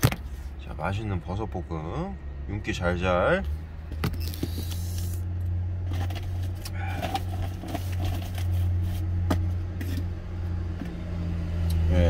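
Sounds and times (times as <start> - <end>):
idling truck hum: 0.0 - 12.0.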